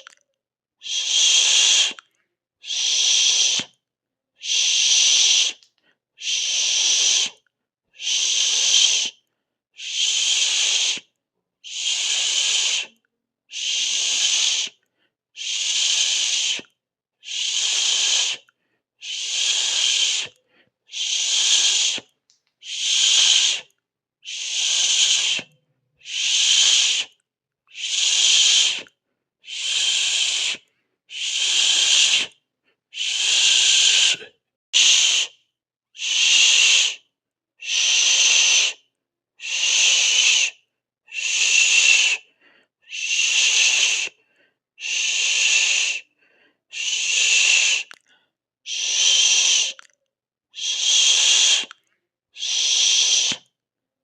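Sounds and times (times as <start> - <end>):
person hissing shhh: 0.8 - 3.7, 4.4 - 7.4, 8.0 - 9.2, 9.8 - 11.1, 11.7 - 14.8, 15.4 - 35.4, 36.0 - 38.8, 39.4 - 48.1, 48.7 - 49.8, 50.6 - 51.8, 52.4 - 53.6.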